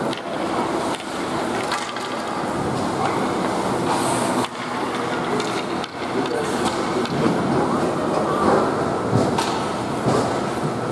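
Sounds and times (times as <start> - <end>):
ice arena background noise: 0.0 - 10.9.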